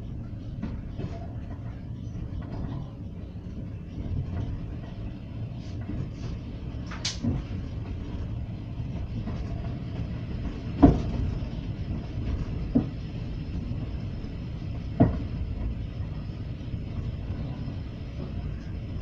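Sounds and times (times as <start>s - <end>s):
train rumbling along: 0.0s - 19.0s.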